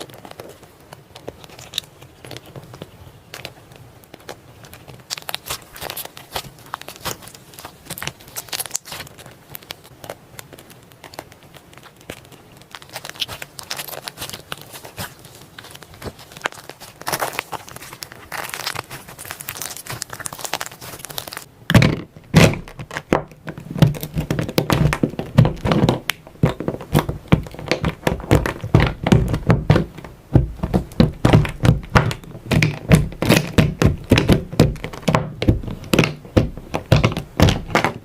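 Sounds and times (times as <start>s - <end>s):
slime crackling and crinkling: 0.0s - 38.0s
slime squelching: 0.0s - 38.0s.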